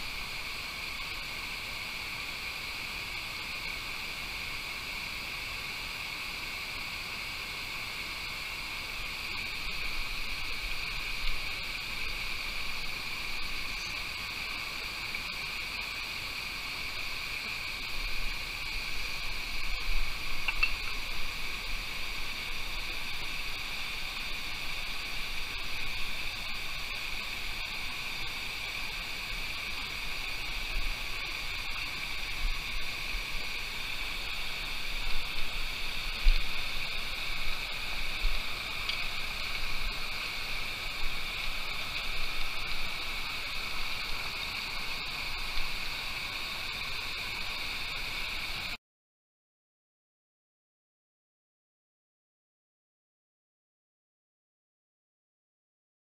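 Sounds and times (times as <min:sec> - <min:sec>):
stream rushing over rocks: 0:00.0 - 0:48.8.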